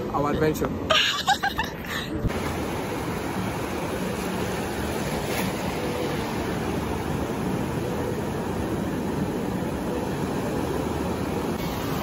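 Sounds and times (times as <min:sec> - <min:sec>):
ocean surf breaking on beach: 0:02.3 - 0:12.0.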